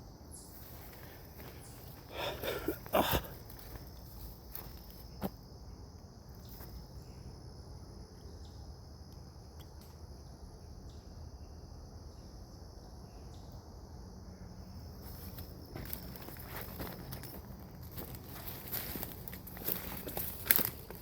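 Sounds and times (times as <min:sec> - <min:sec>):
insect chorus trilling: 0:00.0 - 0:21.0.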